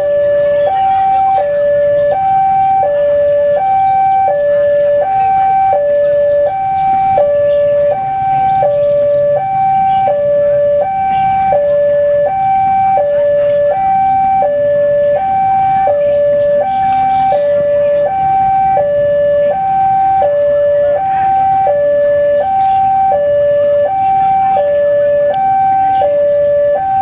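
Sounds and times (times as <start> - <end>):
faint street market bustle: 0.0 - 27.0
level crossing two-tone alarm: 0.0 - 27.0.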